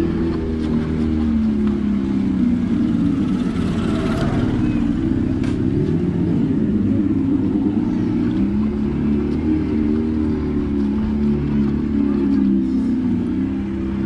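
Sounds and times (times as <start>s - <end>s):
electric motorcycle motor hum: 0.0s - 14.0s
rumble of the ride: 0.0s - 14.0s.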